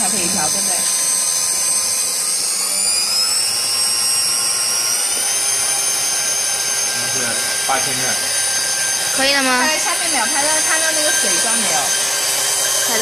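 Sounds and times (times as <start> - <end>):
mixer whining: 0.0 - 13.0.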